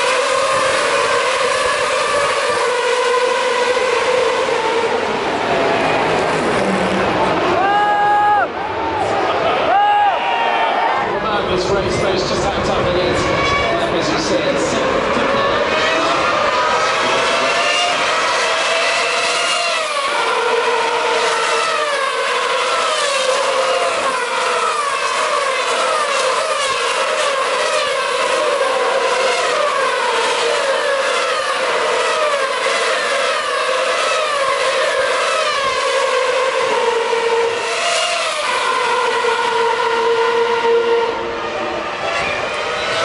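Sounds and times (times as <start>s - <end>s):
racing cars passing at high revs: 0.0s - 9.7s, 10.8s - 43.0s.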